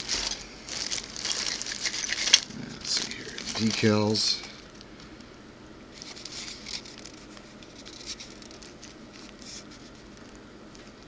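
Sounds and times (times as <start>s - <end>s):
paper sheet crinkling: 0.0s - 4.8s, 5.9s - 11.0s.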